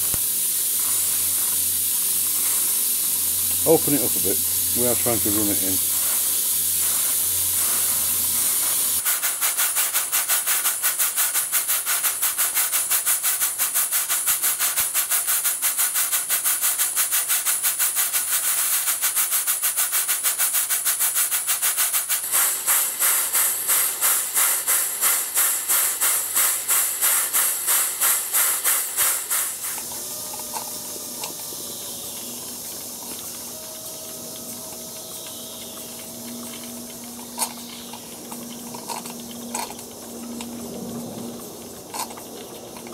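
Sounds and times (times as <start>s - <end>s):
model steam engine running: 0.0s - 42.9s
steam hissing: 0.0s - 42.9s
steam pump exhaust beats: 0.0s - 42.9s.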